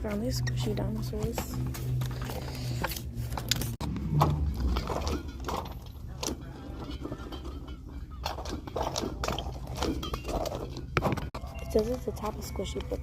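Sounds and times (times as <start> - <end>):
store background noise: 0.0 - 13.0.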